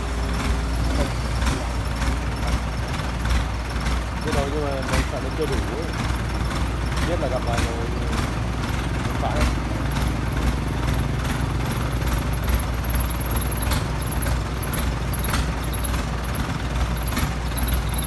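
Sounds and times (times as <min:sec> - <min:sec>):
excavator diesel engine rumbling: 0:00.0 - 0:18.0.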